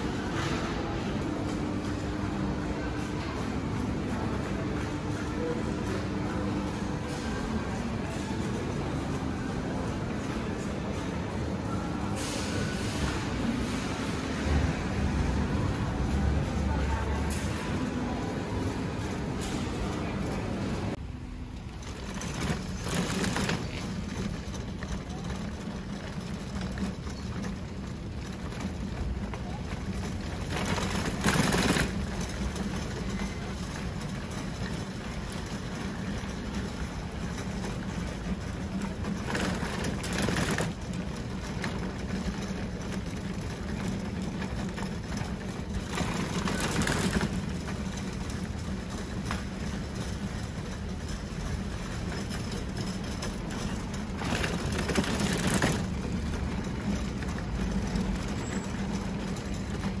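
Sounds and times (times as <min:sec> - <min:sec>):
low mechanical hum: 0:00.0 - 1:00.0.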